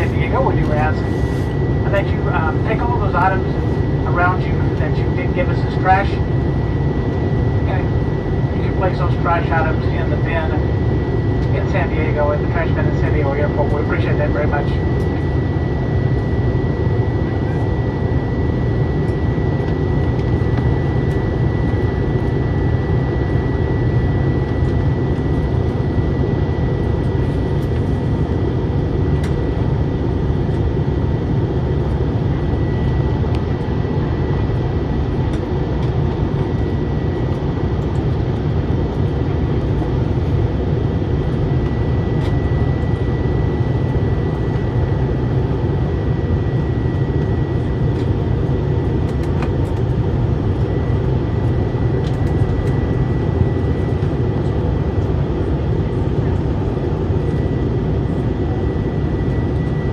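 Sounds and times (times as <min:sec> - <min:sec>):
airplane engine and airflow roar: 0:00.0 - 0:59.9.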